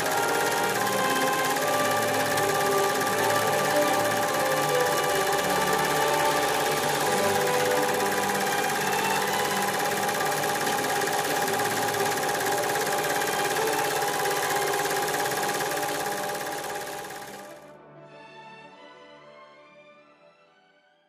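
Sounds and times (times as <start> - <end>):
film projector clattering: 0.0 - 17.6.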